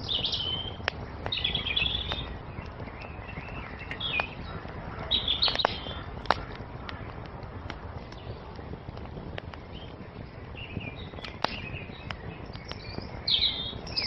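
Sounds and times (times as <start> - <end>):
songbirds chirping: 0.0 - 14.0
wood fire crackling: 0.0 - 14.0.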